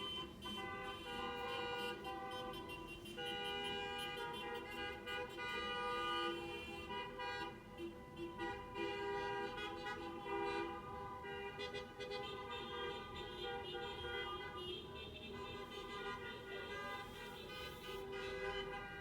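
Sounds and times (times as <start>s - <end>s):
car horns honking: 0.0s - 19.0s.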